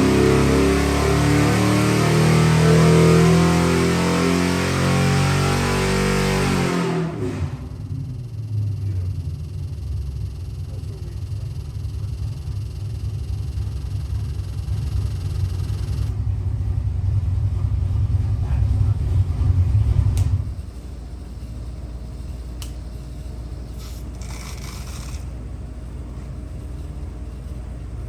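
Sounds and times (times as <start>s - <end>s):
engine heavy low rumble: 0.0s - 28.0s.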